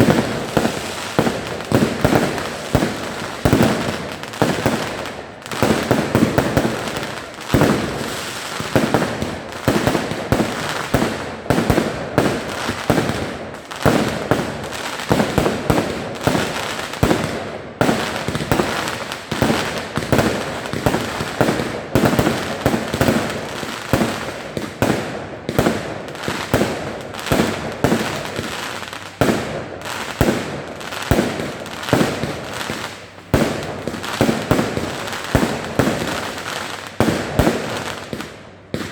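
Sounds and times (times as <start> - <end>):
rapid fireworks bangs: 0.0 - 38.9.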